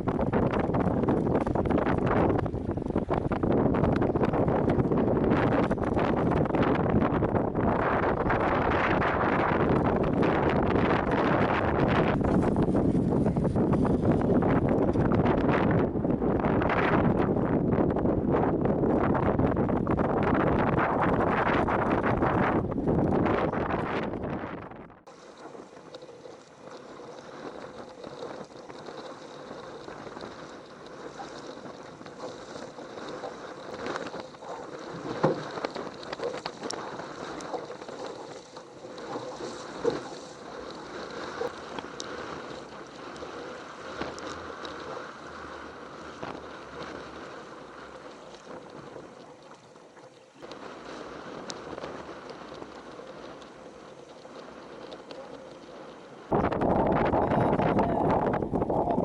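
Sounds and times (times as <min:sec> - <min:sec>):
water sloshing around kayak: 0:00.0 - 0:15.7, 0:25.1 - 0:59.0
wind buffeting microphone: 0:00.0 - 0:59.0.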